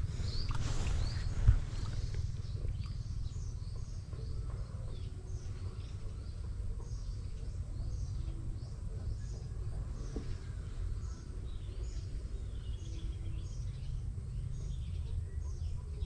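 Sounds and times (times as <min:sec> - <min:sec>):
bird chirping: 0:00.0 - 0:16.0
low rumble: 0:00.0 - 0:16.0.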